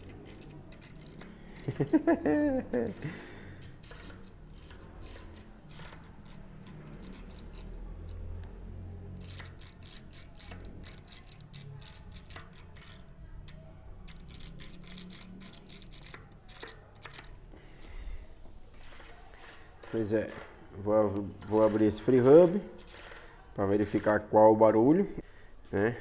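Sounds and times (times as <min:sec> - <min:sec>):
bicycle freehub clicking: 0:00.0 - 0:17.6, 0:18.7 - 0:24.3.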